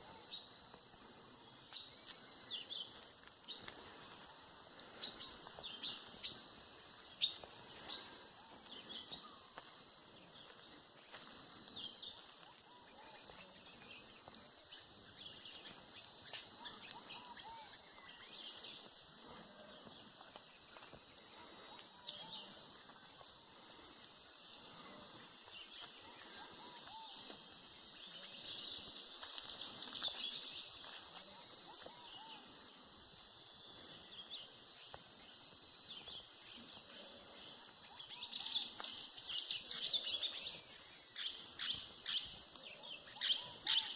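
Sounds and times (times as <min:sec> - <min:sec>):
bird calls and chirps: 0:00.0 - 0:20.4, 0:21.3 - 0:43.9
insect trill pulsing: 0:00.0 - 0:43.9.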